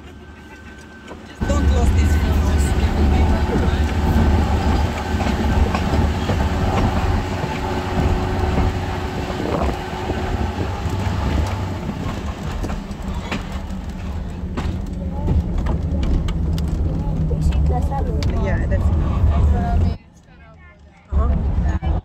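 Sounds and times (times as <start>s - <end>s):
train rumble inside carriage: 0.0s - 22.0s
wheel clicks and rattles: 1.4s - 19.9s.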